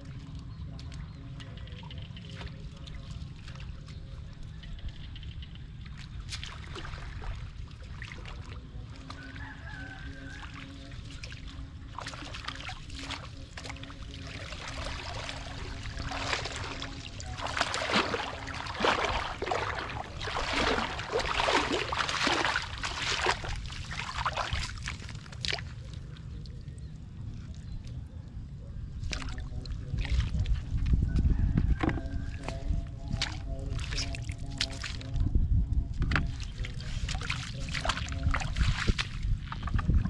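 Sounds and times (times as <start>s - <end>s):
water sloshing and splashing: 0.0s - 28.1s, 28.8s - 40.0s.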